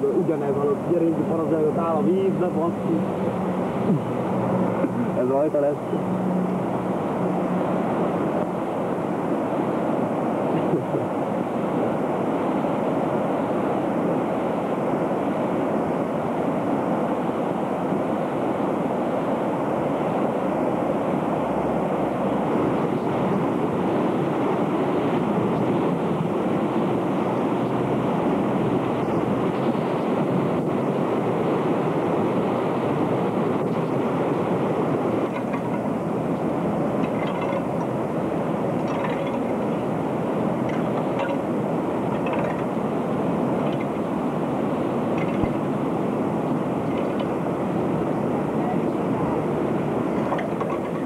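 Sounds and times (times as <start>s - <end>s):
flooded brook roaring: 0.0s - 51.0s.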